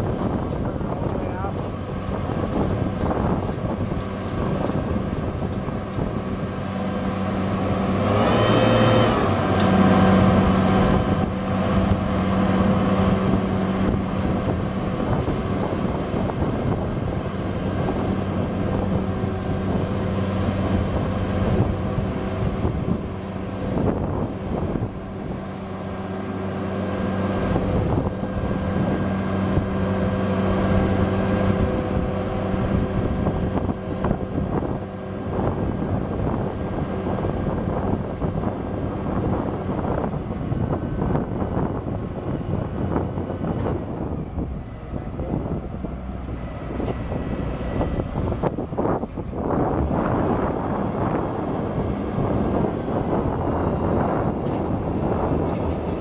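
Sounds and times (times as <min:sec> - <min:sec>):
diesel truck engine running: 0:00.0 - 0:56.0
short engine whine: 0:00.0 - 0:56.0.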